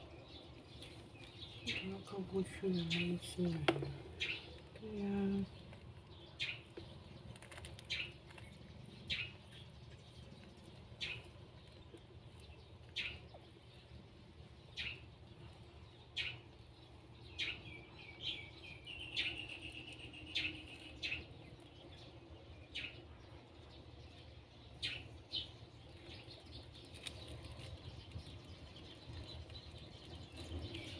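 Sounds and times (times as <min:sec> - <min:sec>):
low steady hum: 0:00.0 - 0:30.9
small birds chirping: 0:00.0 - 0:30.9.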